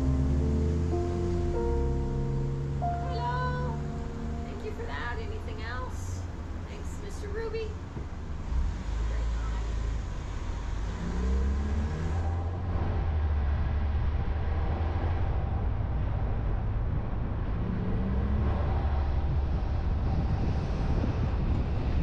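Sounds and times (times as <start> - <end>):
road and engine rumble: 0.0 - 22.0.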